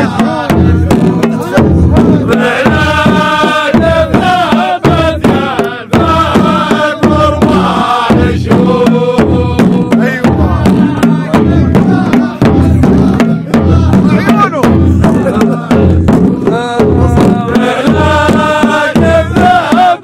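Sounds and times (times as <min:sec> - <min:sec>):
frame drums beating: 0:00.0 - 0:20.0
men chanting in unison: 0:00.0 - 0:20.0.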